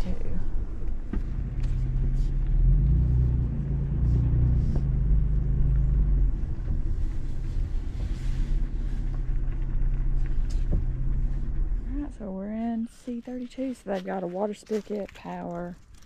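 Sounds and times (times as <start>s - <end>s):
car engine rumbling at low speed: 0.0s - 16.0s
tyres rumbling: 0.0s - 16.0s.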